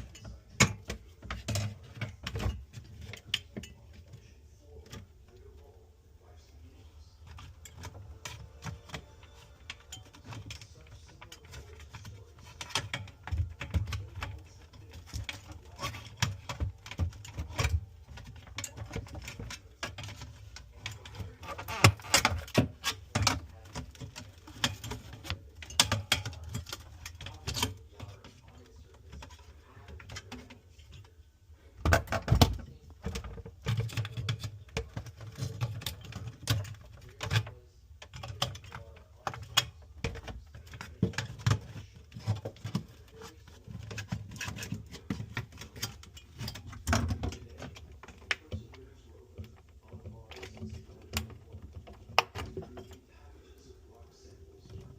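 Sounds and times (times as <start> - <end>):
tools clicking and knocking on parts: 0.0 - 5.6, 7.2 - 54.9.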